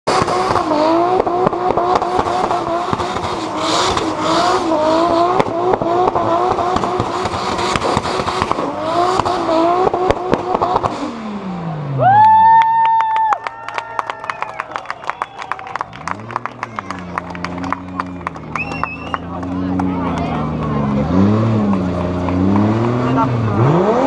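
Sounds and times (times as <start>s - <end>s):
car engine bouncing off rev limiter: 0.1s - 11.8s, 15.8s - 24.0s
engine crackles: 0.1s - 12.4s, 13.4s - 24.0s.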